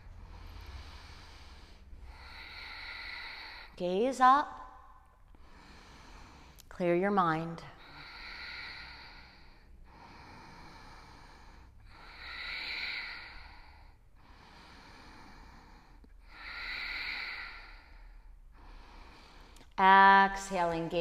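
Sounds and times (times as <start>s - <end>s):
woman breathing slowly: 0.0s - 6.8s, 7.6s - 19.8s.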